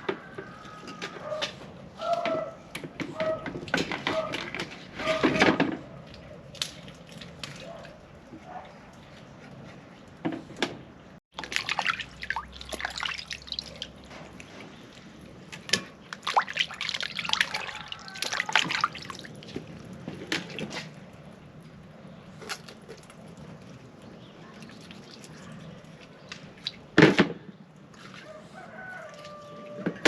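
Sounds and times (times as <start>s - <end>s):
water splashing and dripping: 3.2s - 9.4s, 11.3s - 30.0s.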